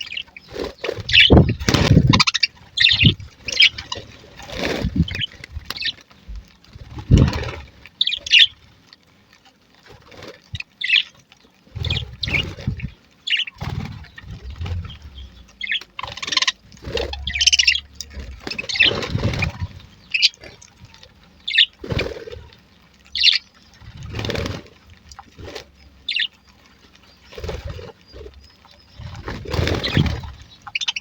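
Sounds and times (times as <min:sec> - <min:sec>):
budgerigars chirping and chattering: 0:00.0 - 0:08.6, 0:09.9 - 0:31.0.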